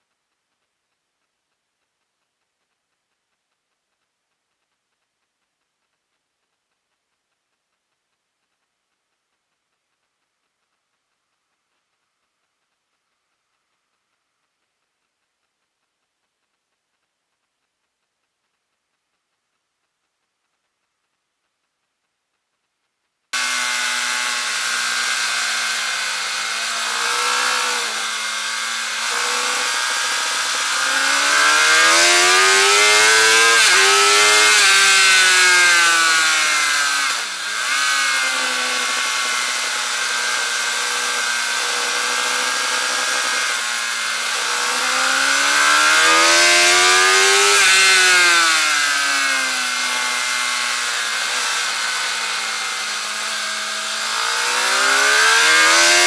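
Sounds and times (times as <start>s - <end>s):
motorcycle engine at speed: 0.0s - 56.0s.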